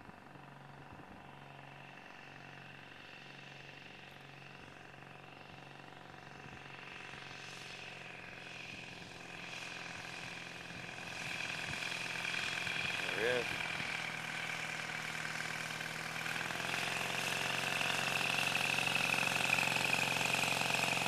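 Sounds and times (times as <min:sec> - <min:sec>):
light aircraft engine droning: 0:00.0 - 0:21.0.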